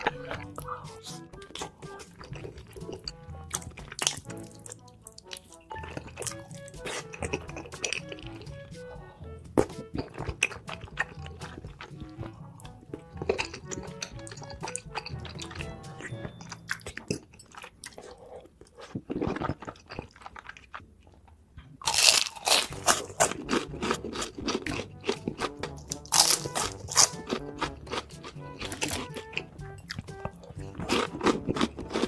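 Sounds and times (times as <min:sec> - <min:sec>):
crunchy chewing: 0:00.0 - 0:08.9, 0:09.6 - 0:32.0
background music with steady beat: 0:00.0 - 0:17.3, 0:22.0 - 0:32.0.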